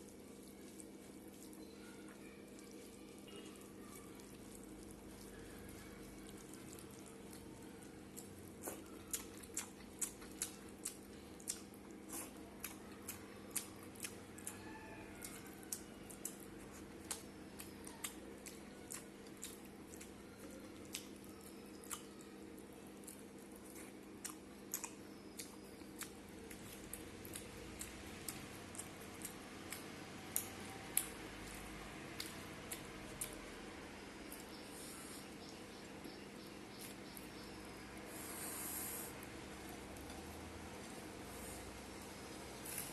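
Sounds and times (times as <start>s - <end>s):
person chewing food: 0.0s - 41.7s.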